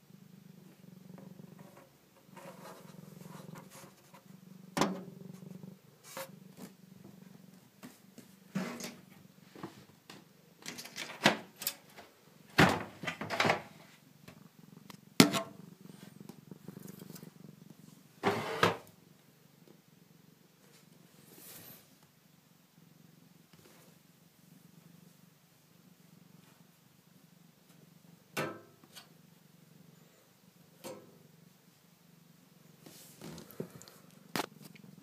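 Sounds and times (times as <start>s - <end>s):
cat purring: 0.0s - 10.6s, 13.6s - 35.0s.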